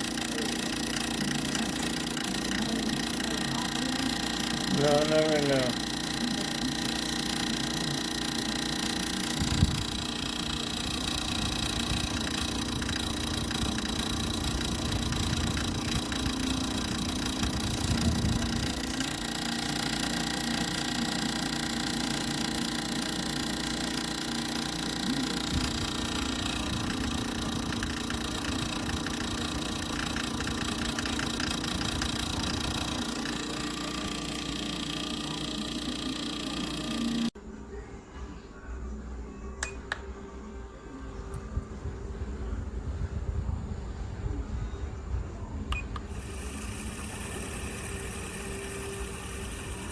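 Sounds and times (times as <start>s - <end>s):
air purifier fan humming: 0.0s - 37.4s, 45.5s - 49.9s.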